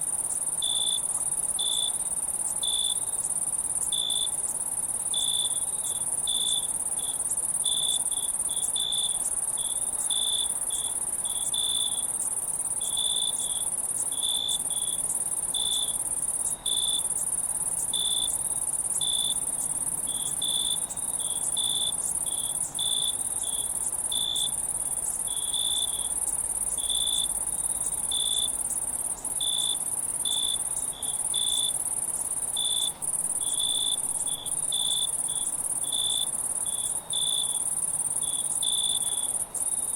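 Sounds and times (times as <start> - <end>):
high-pitched cricket trill: 0.0 - 39.9.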